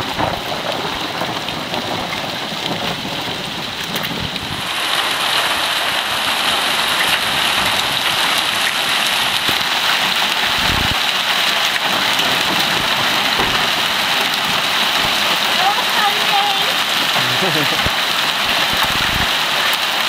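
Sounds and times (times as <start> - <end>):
hail and rain pelting pavement: 0.0 - 20.0.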